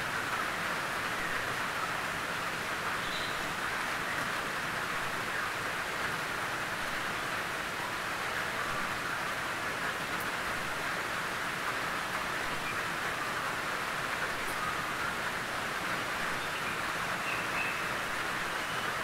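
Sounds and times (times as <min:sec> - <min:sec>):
rain on a tin roof: 0:00.0 - 0:19.0.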